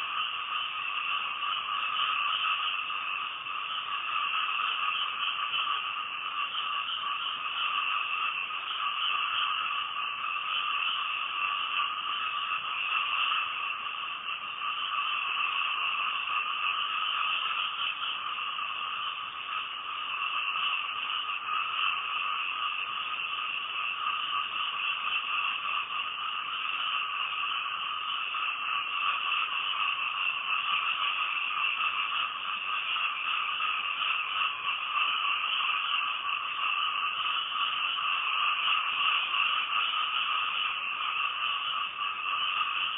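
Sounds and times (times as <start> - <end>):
frogs chorus: 0.0 - 42.9.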